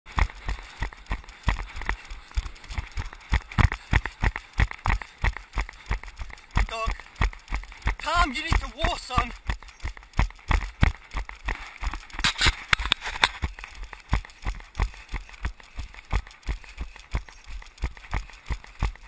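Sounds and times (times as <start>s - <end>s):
running footsteps on dirt trail: 0.1s - 19.0s.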